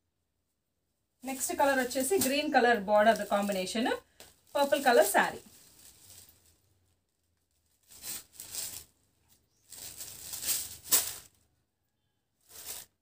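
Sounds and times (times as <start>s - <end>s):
fabric rustling: 1.2s - 11.5s, 12.4s - 13.0s.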